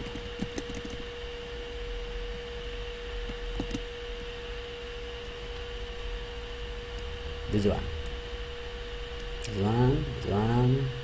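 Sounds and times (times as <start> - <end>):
low hum and hiss: 0.0 - 11.0
steady electrical whine: 0.0 - 11.0.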